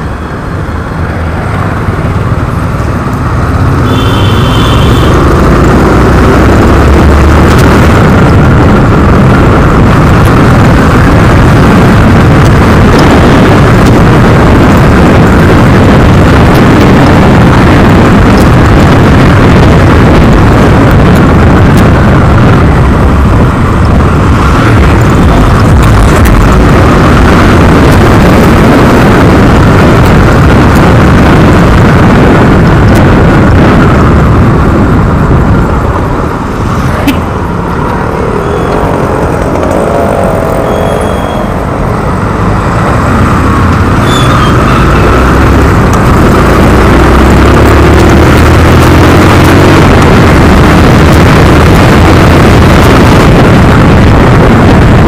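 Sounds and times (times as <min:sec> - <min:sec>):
motorcycle engine: 0:00.0 - 0:55.0
passing traffic: 0:00.0 - 0:55.0
wind buffeting microphone: 0:05.1 - 0:55.0.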